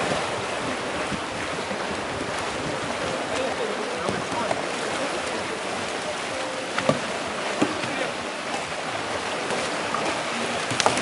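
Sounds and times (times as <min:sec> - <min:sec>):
fast-flowing river water: 0:00.0 - 0:11.0.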